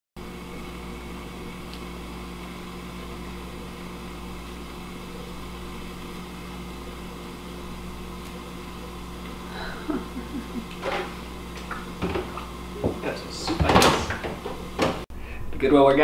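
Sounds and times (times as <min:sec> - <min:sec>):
electric appliance humming: 0:00.2 - 0:15.1.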